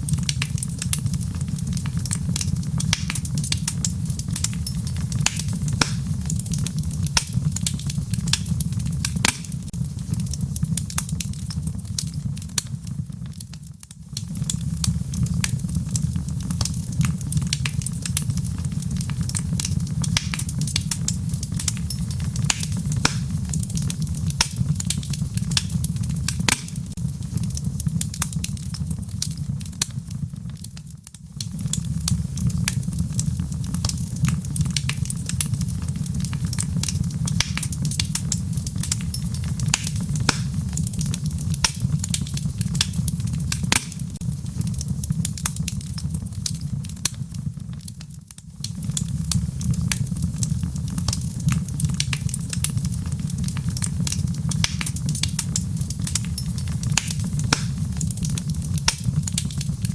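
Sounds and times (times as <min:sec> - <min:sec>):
wood fire crackling in fireplace: 0:00.0 - 0:59.9.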